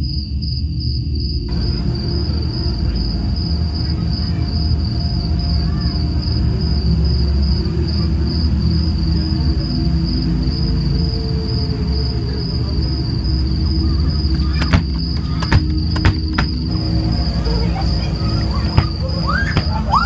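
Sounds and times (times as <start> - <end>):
crickets chirping: 0.0 - 20.0
low droning music: 0.0 - 20.0.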